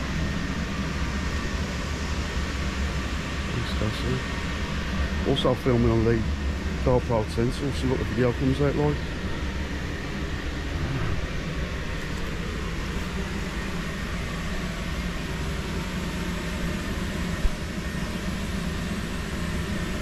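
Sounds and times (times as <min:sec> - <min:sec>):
blower fan humming: 0:00.0 - 0:20.0.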